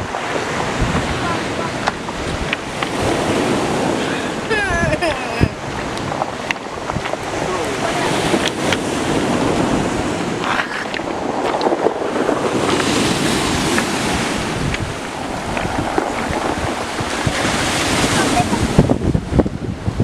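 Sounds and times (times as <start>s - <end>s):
sea surf rushing: 0.0s - 20.0s
wind buffeting microphone: 0.0s - 20.0s.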